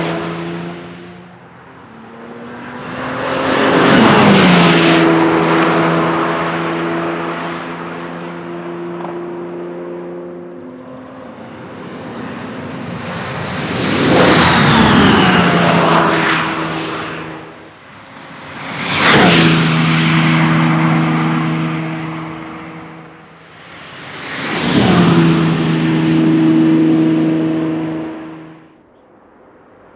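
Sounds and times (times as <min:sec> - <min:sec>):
race car passing at speed: 0:00.0 - 0:28.8.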